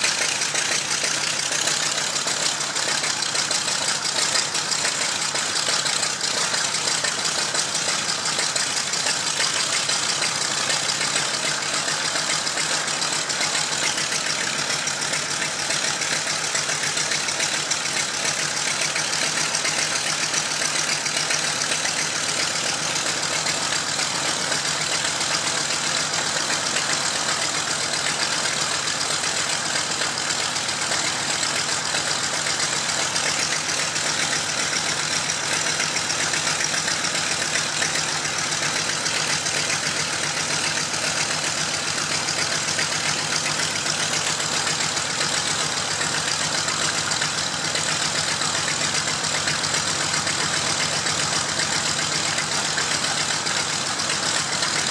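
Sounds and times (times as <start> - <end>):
aircraft radial engine running: 0.0 - 54.9.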